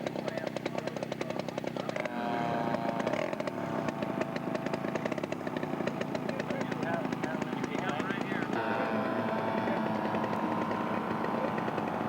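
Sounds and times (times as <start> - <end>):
faster model plane engine: 0.0 - 12.0
model plane engine idling: 0.0 - 12.0.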